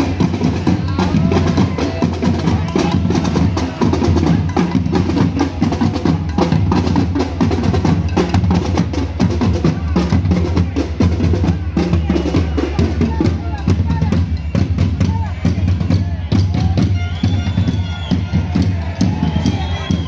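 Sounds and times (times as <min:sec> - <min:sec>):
drum-heavy music: 0:00.0 - 0:20.0.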